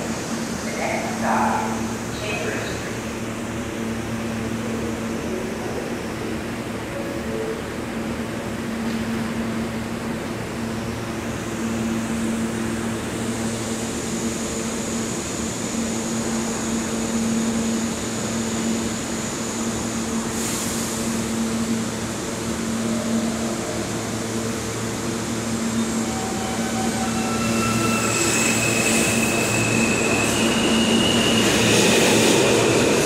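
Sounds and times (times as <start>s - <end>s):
train air-conditioning hum: 0.0s - 27.7s.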